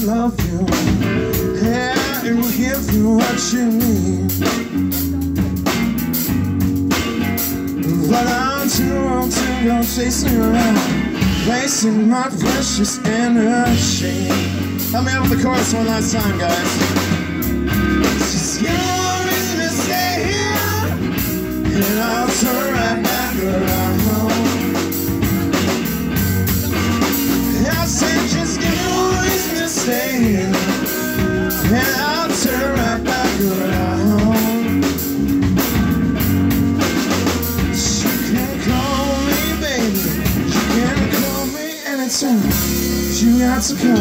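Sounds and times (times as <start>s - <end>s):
live rock band playing blues: 0.0s - 44.0s
lead guitar bending notes: 0.7s - 11.6s, 13.1s - 41.0s.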